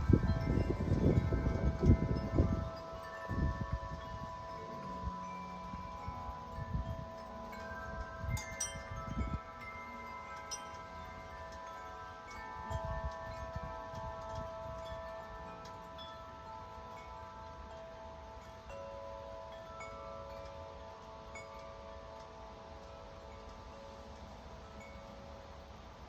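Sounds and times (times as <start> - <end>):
low rumble of wind gusts: 0.0 - 26.0
wind chime ringing: 0.0 - 26.0.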